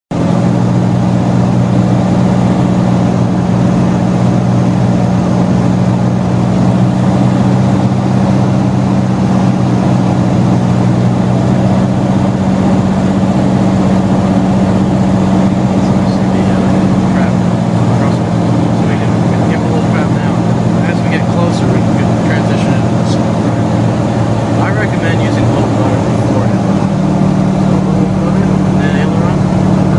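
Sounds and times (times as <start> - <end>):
propeller plane engine drone: 0.1 - 29.9.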